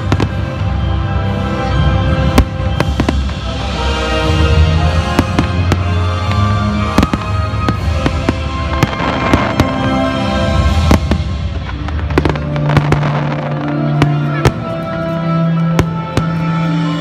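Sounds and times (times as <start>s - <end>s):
fireworks banging: 0.0s - 1.0s, 1.7s - 17.0s.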